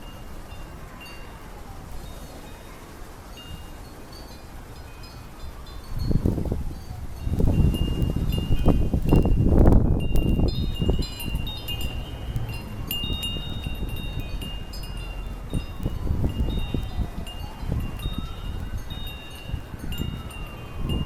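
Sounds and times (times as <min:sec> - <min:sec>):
metal wind chimes ringing: 0:00.0 - 0:21.0
wind rumbling on microphone: 0:00.0 - 0:21.0.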